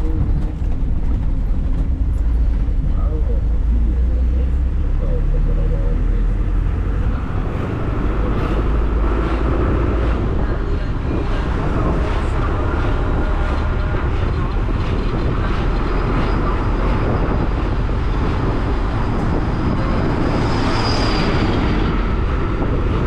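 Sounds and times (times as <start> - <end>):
vehicle and road rumble: 0.0 - 23.0.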